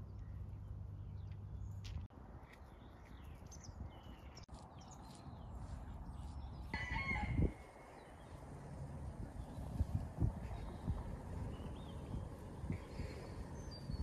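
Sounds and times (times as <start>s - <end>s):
small birds chirping: 0.0s - 6.9s, 7.6s - 14.0s.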